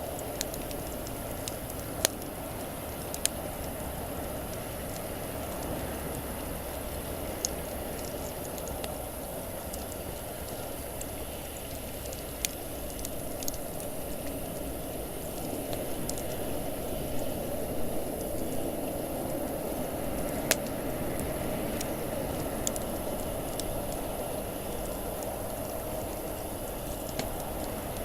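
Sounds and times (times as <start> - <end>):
burning wood crackling and popping: 0.0 - 28.0
campfire hissing: 0.0 - 28.0.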